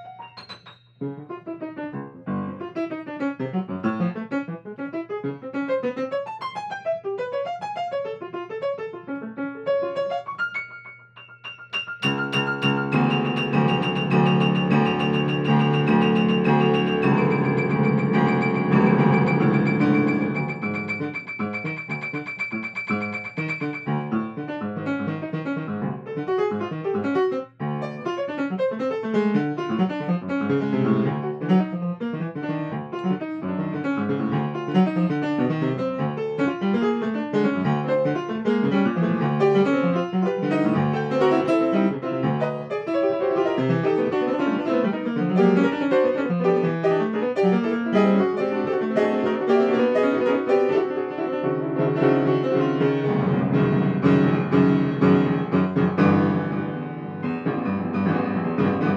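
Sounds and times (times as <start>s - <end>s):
grand piano improvisation: 0.0s - 58.9s.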